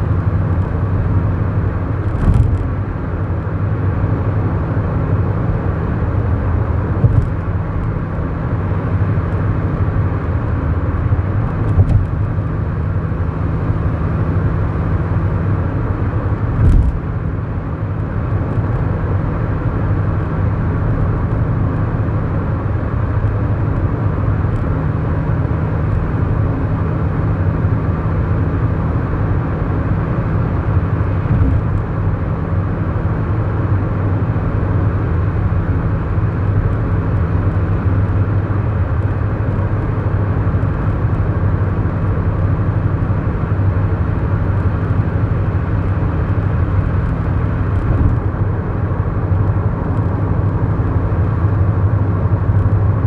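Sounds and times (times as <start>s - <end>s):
car engine humming: 0.0s - 20.0s, 27.6s - 53.0s
tyre and road noise: 0.0s - 53.0s.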